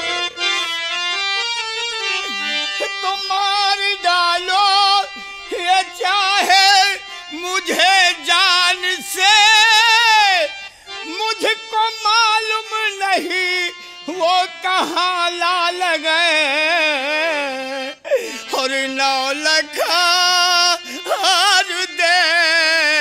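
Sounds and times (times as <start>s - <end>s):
harmonium accompaniment: 0.0s - 23.0s
person singing with vibrato: 0.0s - 23.0s.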